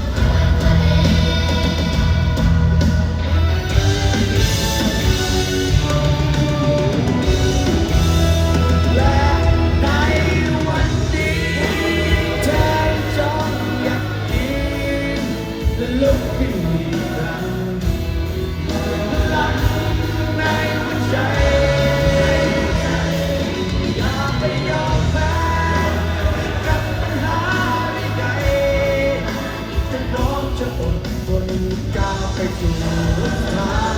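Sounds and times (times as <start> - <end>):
band playing pop-rock song: 0.0 - 33.9
person singing: 5.0 - 33.9.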